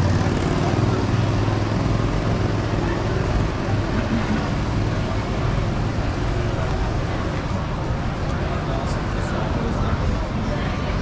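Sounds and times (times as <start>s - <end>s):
vehicle engine running close by: 0.0s - 11.0s.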